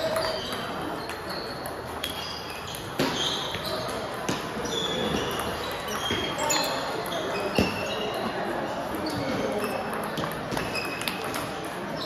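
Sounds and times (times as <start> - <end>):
murmur of voices: 0.0 - 12.0
table tennis balls clicking: 0.0 - 12.0.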